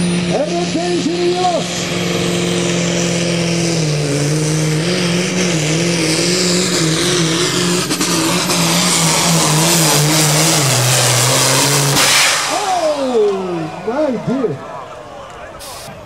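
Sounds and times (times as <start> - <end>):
diesel engine running flat out: 0.0 - 16.0.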